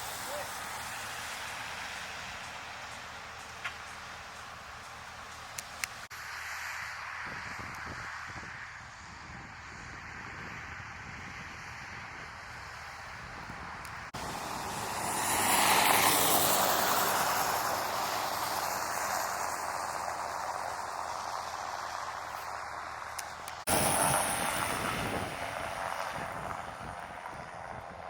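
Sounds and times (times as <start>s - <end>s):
vehicle driving past on snow: 0.0s - 12.8s, 14.1s - 28.0s.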